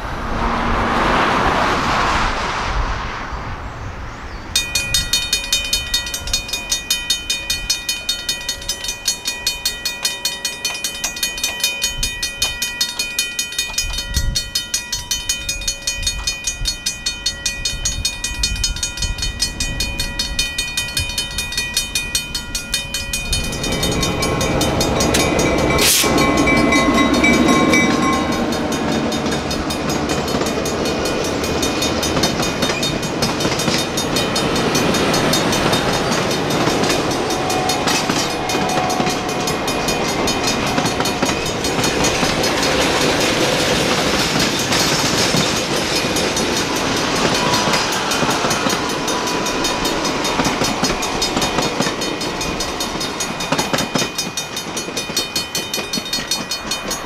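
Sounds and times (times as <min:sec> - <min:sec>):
railroad crossing bell ringing: 0:04.5 - 0:57.0
train wheels rumbling on rails: 0:04.5 - 0:57.0.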